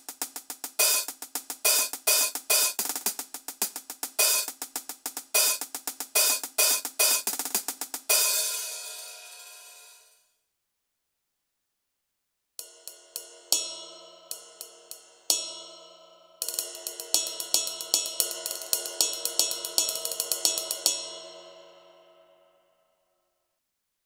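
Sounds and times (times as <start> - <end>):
ride cymbal hits: 0.0 - 10.1, 12.6 - 22.2.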